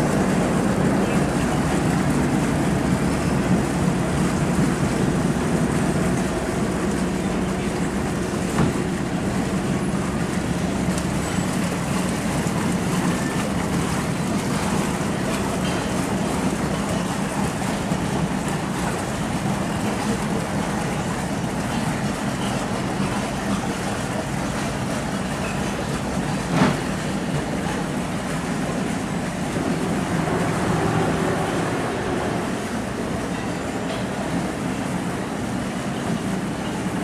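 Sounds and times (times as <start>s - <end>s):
boat motor droning: 0.0s - 37.0s
rushing water and wind: 0.0s - 37.0s.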